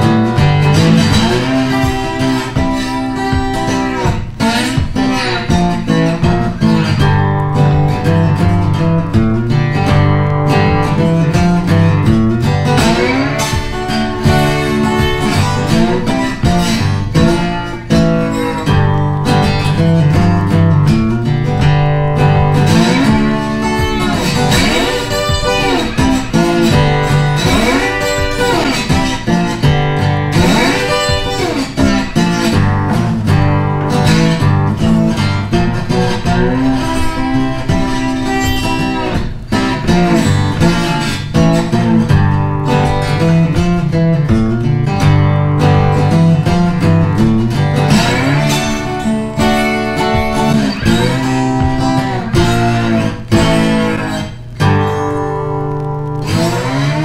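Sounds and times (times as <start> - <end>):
strummed acoustic guitar music: 0.0 - 57.0.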